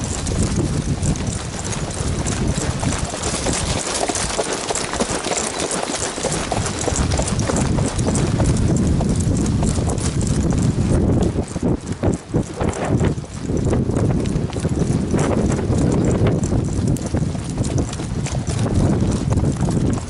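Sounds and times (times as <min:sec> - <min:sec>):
horse hoofbeats on dirt: 0:00.0 - 0:20.0.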